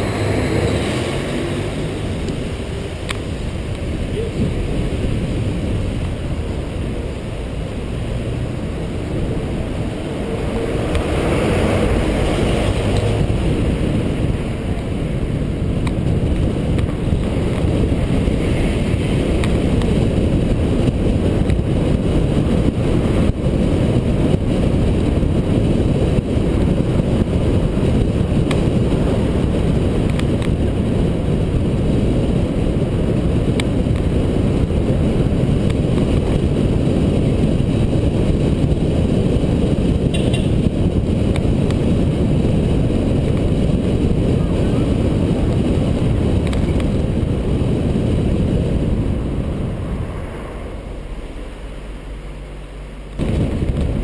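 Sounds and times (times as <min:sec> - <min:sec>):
road and engine noise: 0:00.0 - 0:54.0
wind buffeting microphone: 0:00.0 - 0:54.0.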